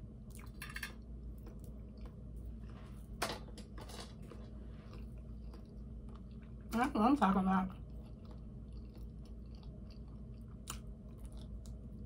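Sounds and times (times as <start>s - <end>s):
person chewing crunchy food: 0.2s - 3.2s, 3.8s - 6.7s, 7.7s - 12.0s.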